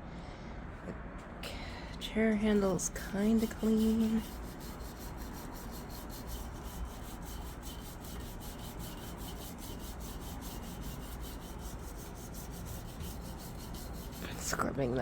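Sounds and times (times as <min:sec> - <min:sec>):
scrubbing a chair: 0:02.6 - 0:15.0.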